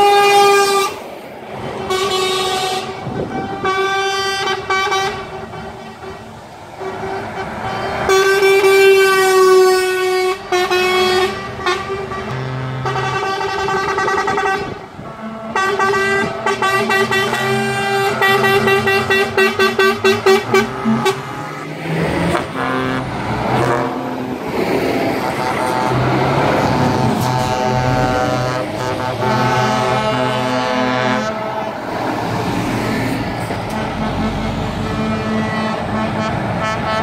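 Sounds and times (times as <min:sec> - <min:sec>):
deeper horn: 0:00.0 - 0:01.0, 0:01.6 - 0:37.0
truck air horns: 0:00.0 - 0:37.0.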